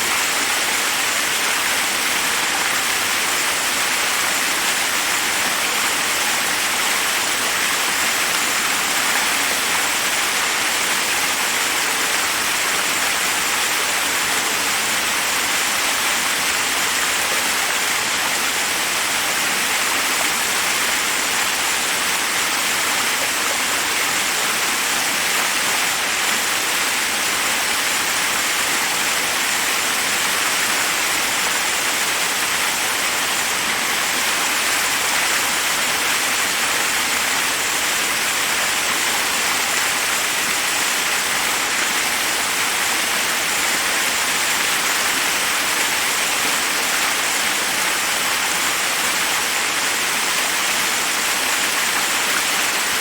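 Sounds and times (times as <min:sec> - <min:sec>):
waterfall rushing over rocks: 0:00.0 - 0:53.0.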